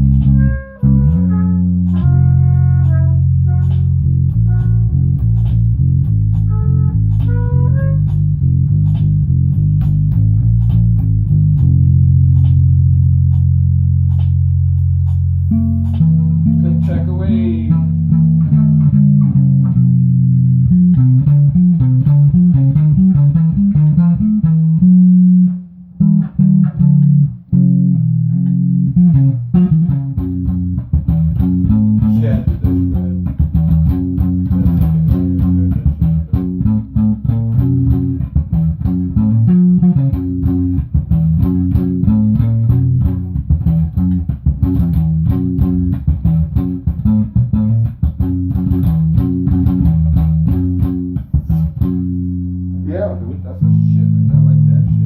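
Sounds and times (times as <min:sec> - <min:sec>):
bass guitar playing: 0:00.0 - 0:55.0
guitar playing: 0:00.0 - 0:55.0.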